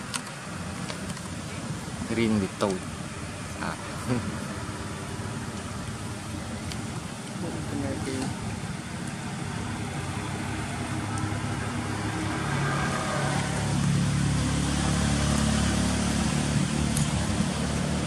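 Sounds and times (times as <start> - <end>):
vehicle engine passing: 2.1 - 18.0.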